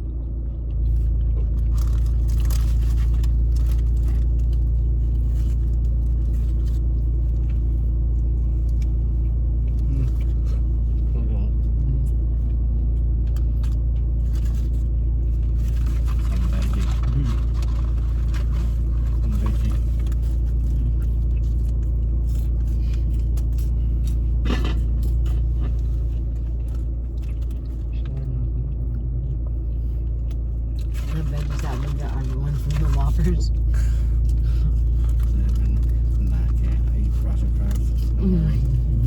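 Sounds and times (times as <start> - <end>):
car engine rumble inside cabin: 0.0 - 39.0
clicks and rustles of eating: 0.1 - 28.3, 28.9 - 39.0.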